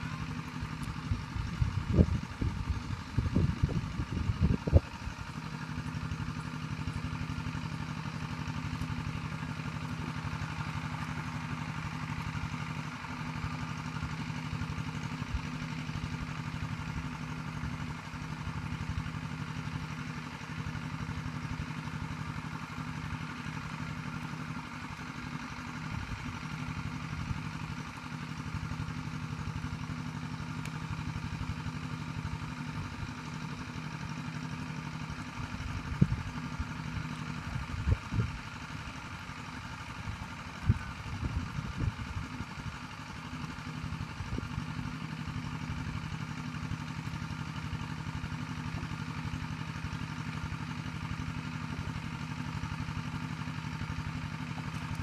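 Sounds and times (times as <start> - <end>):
small engine droning: 0.0 - 55.0.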